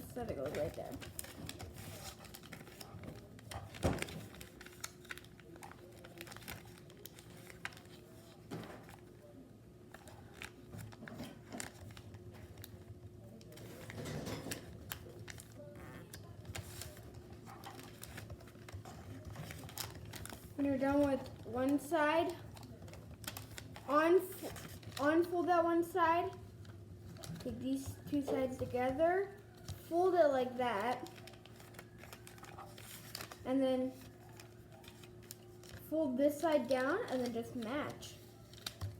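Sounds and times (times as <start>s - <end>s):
paper being folded and creased: 0.0s - 9.0s, 9.9s - 14.0s, 14.6s - 25.4s, 26.2s - 38.9s.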